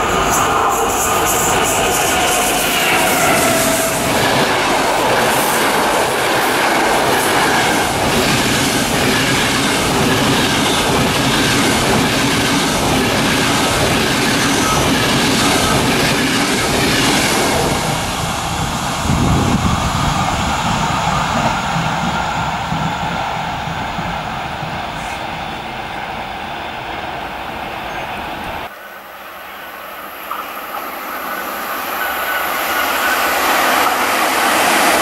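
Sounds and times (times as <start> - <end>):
train wheels running on rails: 0.0 - 35.0.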